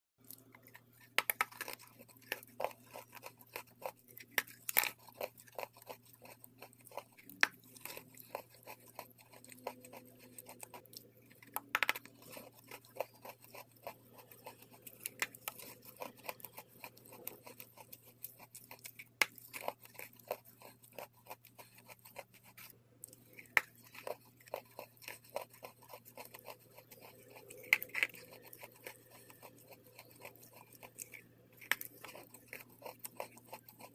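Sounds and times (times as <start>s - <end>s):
biting and chewing chalk paste: 0.2s - 33.9s.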